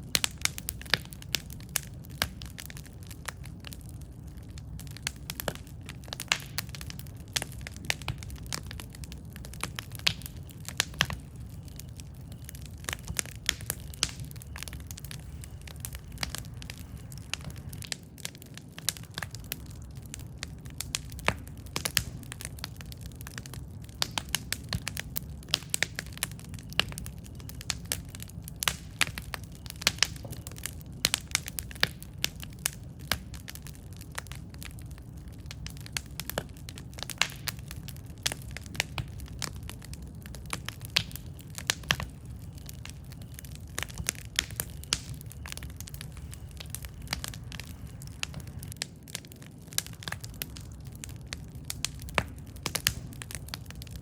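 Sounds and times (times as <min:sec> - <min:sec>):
low rumble of flame: 0:00.0 - 0:54.0
wood crackling and popping: 0:00.0 - 0:54.0.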